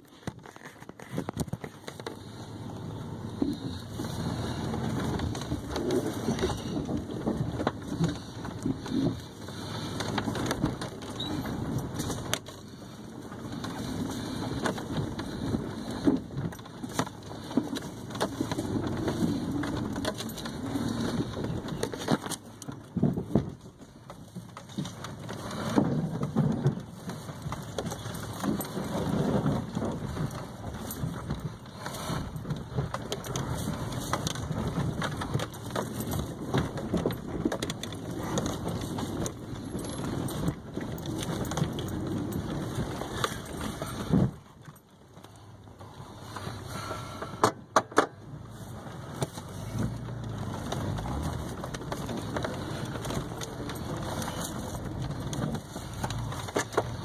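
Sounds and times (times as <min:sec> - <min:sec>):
knocks crunches and rattles: 0:00.0 - 0:57.0
vehicle rumbling on dirt track: 0:00.0 - 0:57.0.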